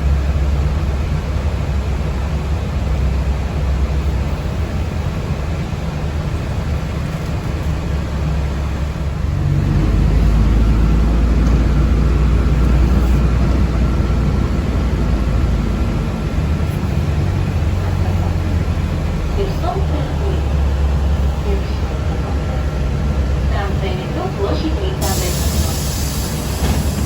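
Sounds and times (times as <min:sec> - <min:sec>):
bus driving rumble: 0:00.0 - 0:27.0.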